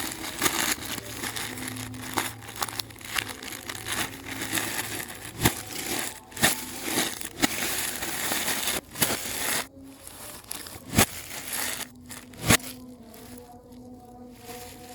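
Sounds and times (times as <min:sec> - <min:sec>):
sharp cracks of packaging: 0:00.0 - 0:13.5
packaging crinkling and rustling: 0:00.0 - 0:14.9.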